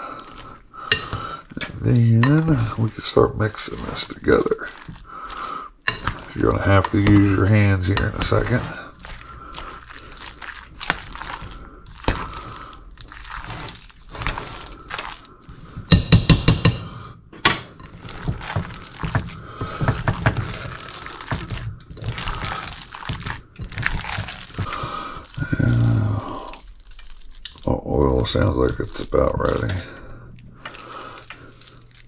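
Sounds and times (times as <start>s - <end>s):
wet squishing and scraping by hand: 0.0s - 16.0s, 17.0s - 32.0s.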